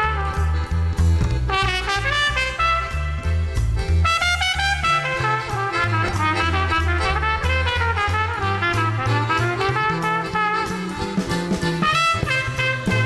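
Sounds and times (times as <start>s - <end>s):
drums: 0.0s - 13.0s
pulsing bass line: 0.0s - 13.0s
small band playing: 0.0s - 13.0s
trumpet playing a melody: 0.0s - 13.0s.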